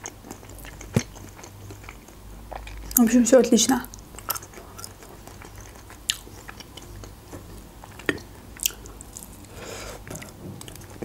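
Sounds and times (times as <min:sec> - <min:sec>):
chewing and wet mouth sounds: 0:00.0 - 0:11.0.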